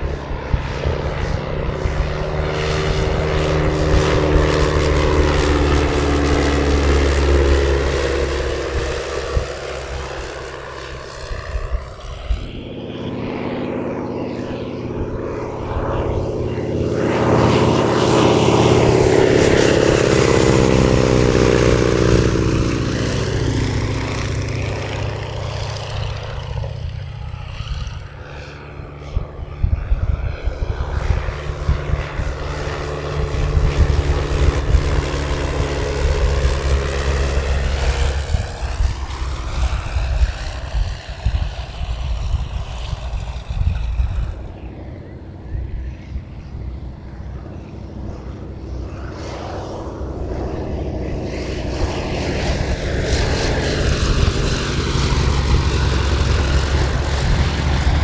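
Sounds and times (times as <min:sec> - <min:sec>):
propeller plane flying past: 0:00.0 - 0:58.0.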